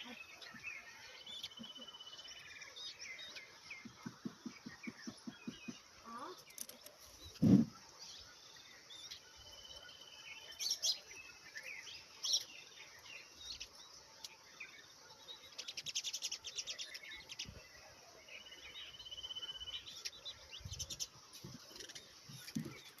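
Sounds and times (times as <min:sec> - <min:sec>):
small birds chirping and trilling: 0:00.0 - 0:23.0.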